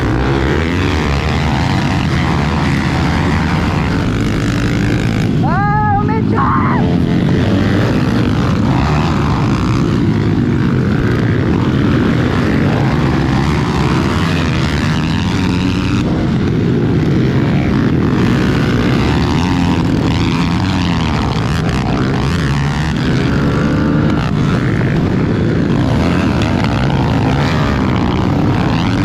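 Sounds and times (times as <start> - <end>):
pit bike engines revving: 0.0 - 29.0.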